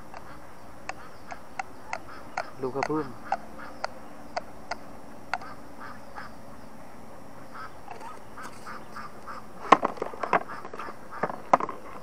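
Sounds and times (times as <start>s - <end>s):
faint animal calls: 0.0s - 6.8s, 7.4s - 12.0s.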